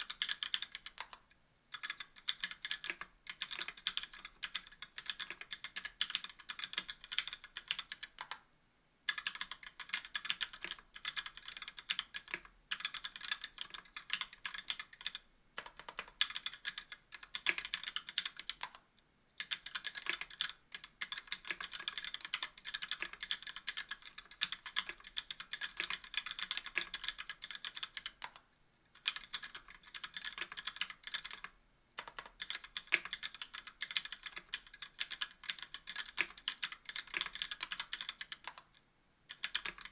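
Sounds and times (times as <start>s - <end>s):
mechanical keyboard typing: 0.0s - 8.4s, 9.1s - 18.8s, 19.4s - 28.4s, 29.0s - 38.7s, 39.3s - 39.9s.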